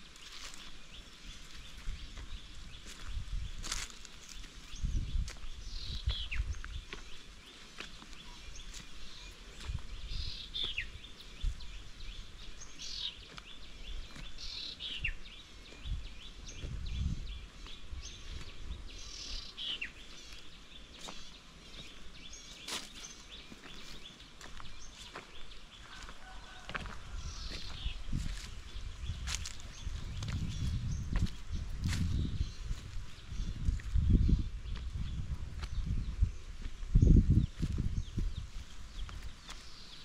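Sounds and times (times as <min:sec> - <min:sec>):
footsteps on dirt path: 0:00.0 - 0:40.0
outdoor ambience: 0:00.0 - 0:40.0.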